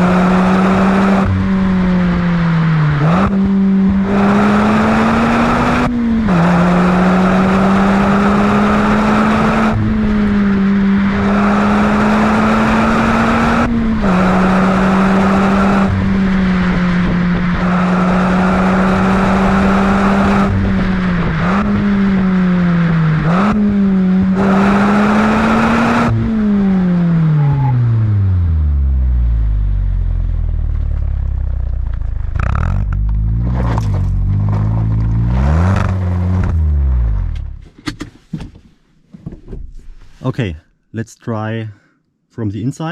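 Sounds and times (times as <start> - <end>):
car engine at high revs: 0.0 - 38.1.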